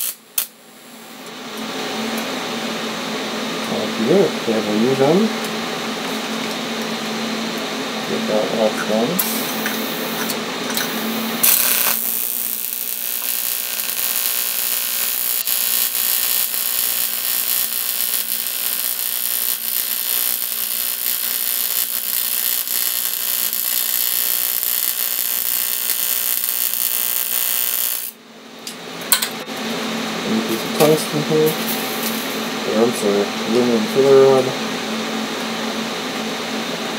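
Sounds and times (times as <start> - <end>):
welding arc buzzing hiss: 0.0 - 2.4, 3.5 - 35.1.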